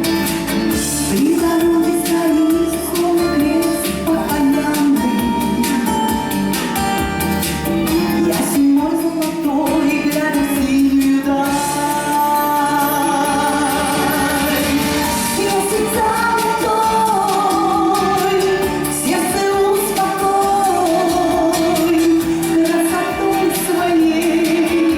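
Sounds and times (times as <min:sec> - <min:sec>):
person singing: 0:00.0 - 0:24.9.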